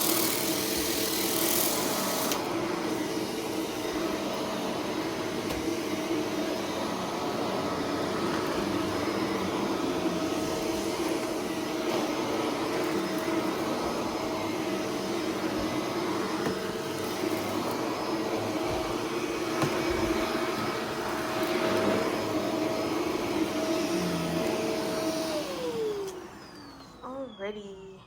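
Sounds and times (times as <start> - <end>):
vacuum cleaner motor whine: 0.0 - 28.0.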